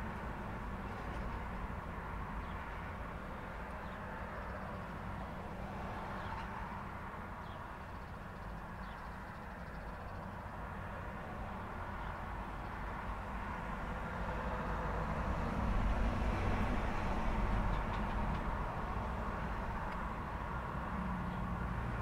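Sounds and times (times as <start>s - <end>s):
hum of passing cars: 0.0s - 22.0s
vehicle engine rumble: 0.0s - 22.0s.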